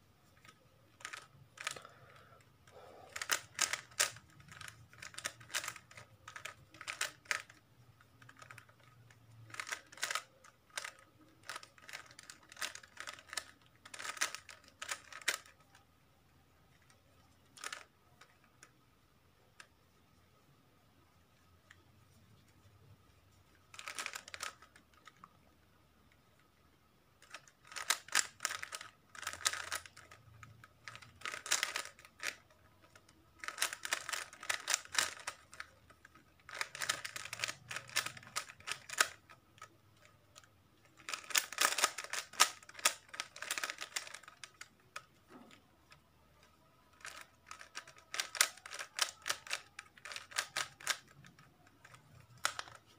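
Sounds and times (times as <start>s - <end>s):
plastic cube clicking: 0.4s - 15.8s, 16.7s - 18.8s, 23.7s - 25.4s, 27.2s - 52.9s.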